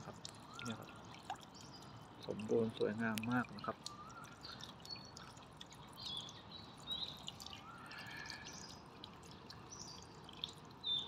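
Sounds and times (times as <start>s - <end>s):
fountain water trickling: 0.0s - 11.0s
water drops plinking: 0.0s - 11.0s.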